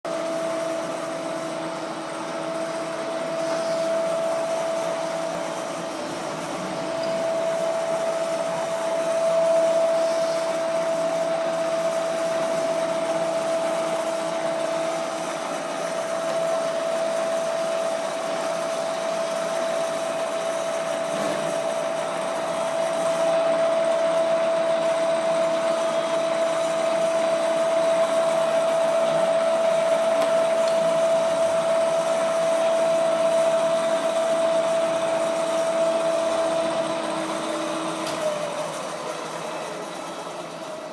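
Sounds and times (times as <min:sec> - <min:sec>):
column drill whining: 0:00.2 - 0:40.9.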